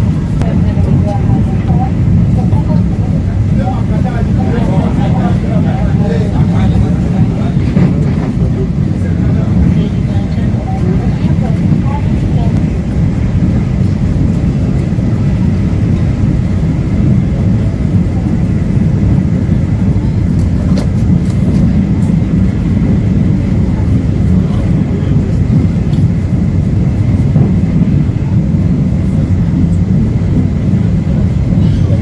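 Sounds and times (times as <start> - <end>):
electric train rumbling: 0.0 - 32.0.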